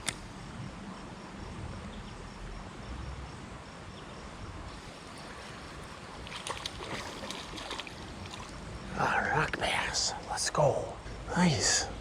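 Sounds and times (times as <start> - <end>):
creek-side outdoor noise: 0.0 - 12.0
faint insect chirping: 0.0 - 12.0.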